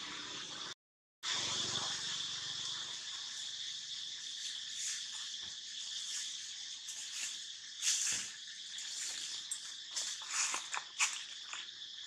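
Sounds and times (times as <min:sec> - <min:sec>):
forest insects chorus: 0:01.6 - 0:12.0.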